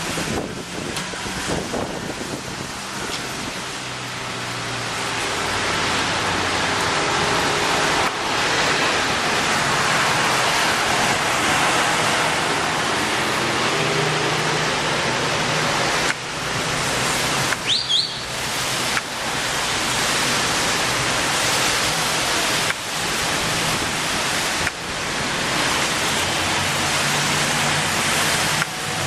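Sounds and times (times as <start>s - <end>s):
faint traffic hum: 0.0s - 29.0s
heavy rain falling: 0.0s - 29.0s.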